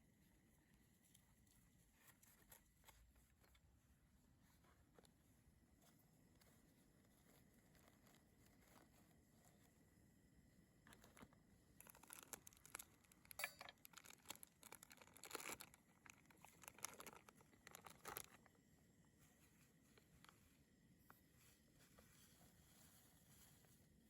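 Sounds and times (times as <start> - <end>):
faint crinkling and rustling: 0.0 - 24.0.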